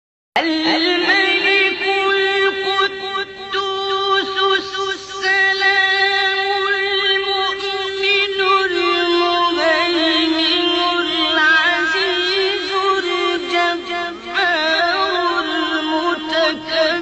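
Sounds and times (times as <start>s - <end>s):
man chanting melodically: 0.4s - 17.0s.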